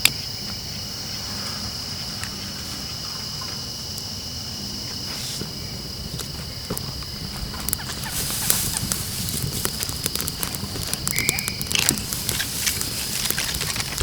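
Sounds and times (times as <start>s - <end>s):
night insects trilling: 0.0s - 14.0s
campfire crackling and popping: 2.2s - 14.0s.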